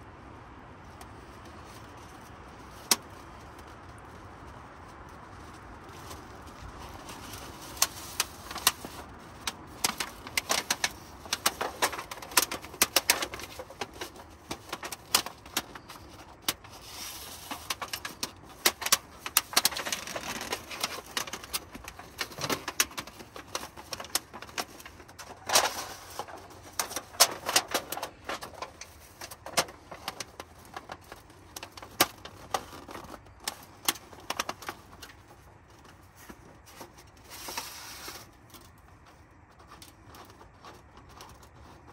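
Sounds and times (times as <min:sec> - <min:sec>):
light scraping: 0:01.0 - 0:41.9.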